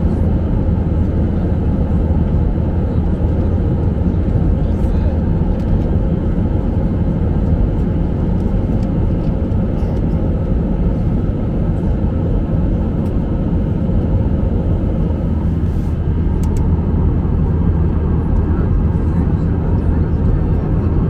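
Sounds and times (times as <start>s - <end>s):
airliner cabin engine rumble: 0.0s - 21.0s
faint constant hum: 0.0s - 21.0s.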